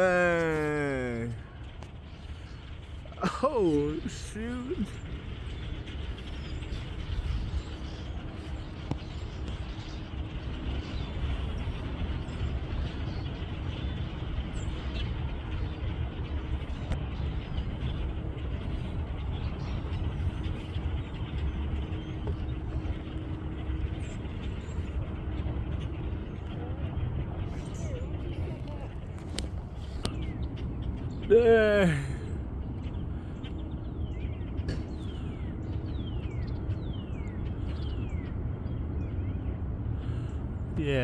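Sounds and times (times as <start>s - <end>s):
faint steady hum: 0.0s - 41.0s
low vehicle rumble: 0.0s - 41.0s.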